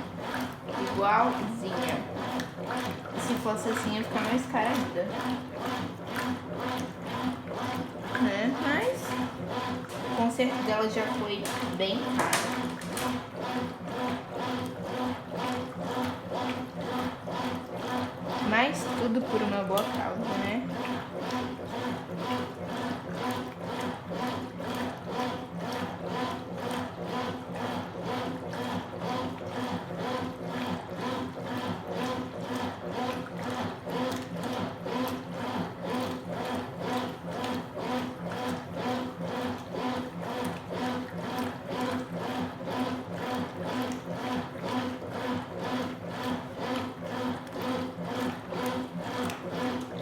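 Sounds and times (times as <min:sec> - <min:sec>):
washing machine churning: 0:00.0 - 0:50.0
washing machine motor humming: 0:00.0 - 0:50.0.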